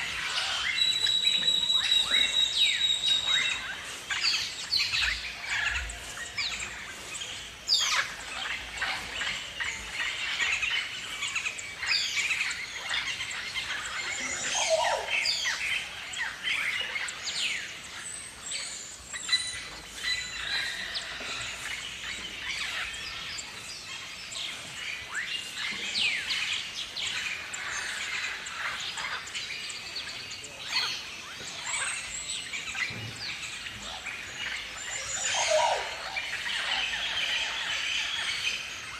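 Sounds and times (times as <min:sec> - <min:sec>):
cockatoos calling: 0:00.0 - 0:38.9.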